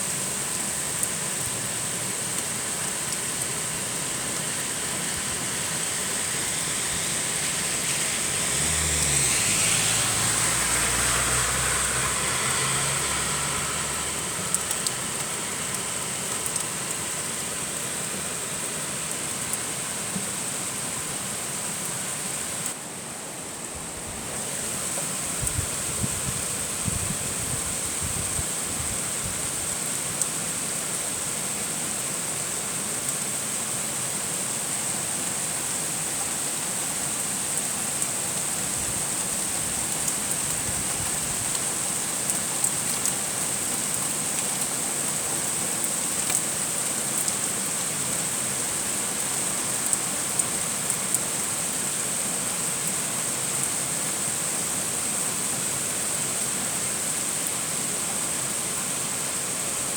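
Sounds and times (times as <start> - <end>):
heavy rain falling: 0.0 - 23.6, 24.2 - 59.9.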